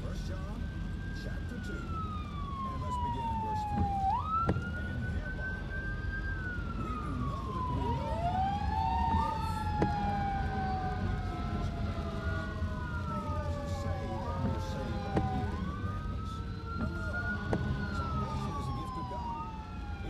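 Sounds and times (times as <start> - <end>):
emergency sirens wailing: 0.0 - 20.0
tyre and road noise: 0.0 - 20.0.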